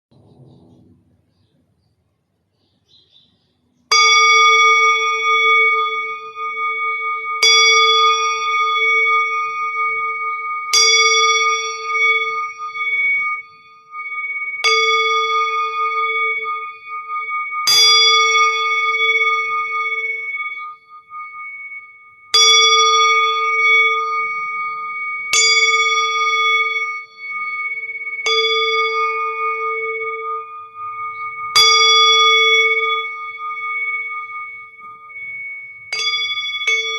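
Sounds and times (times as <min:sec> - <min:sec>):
singing bowl struck: 0:03.9 - 0:36.9.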